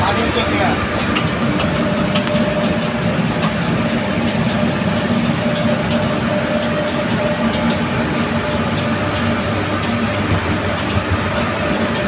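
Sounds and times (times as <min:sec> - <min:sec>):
locomotive cab rumble: 0:00.0 - 0:12.0.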